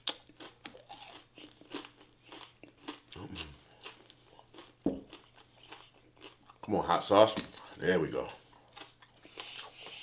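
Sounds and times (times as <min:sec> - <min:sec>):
chewing crispy fried food: 0:00.0 - 0:07.7, 0:08.3 - 0:10.0.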